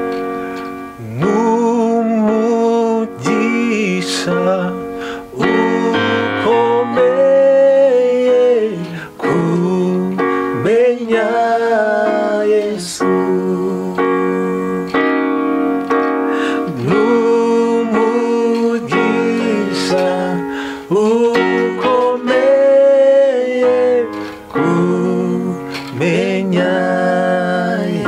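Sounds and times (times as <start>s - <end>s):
electronic keyboard chords: 0.0s - 28.0s
man singing worship song: 1.0s - 15.0s, 16.3s - 28.0s.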